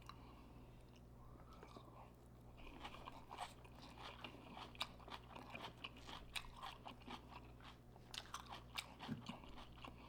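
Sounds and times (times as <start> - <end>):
person chewing food: 0.8 - 10.0.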